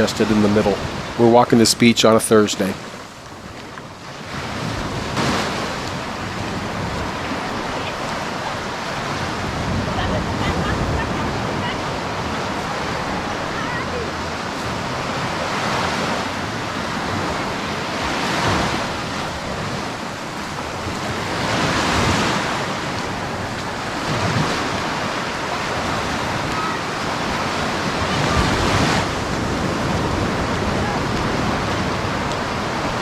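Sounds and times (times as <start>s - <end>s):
ocean waves breaking on beach: 0.0s - 33.0s
wind buffeting microphone: 0.0s - 33.0s.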